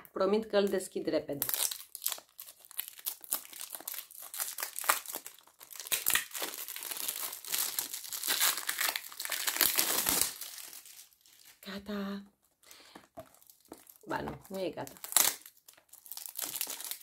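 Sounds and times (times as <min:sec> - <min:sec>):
packaging crinkling and tearing: 0:01.3 - 0:11.6, 0:12.7 - 0:17.0.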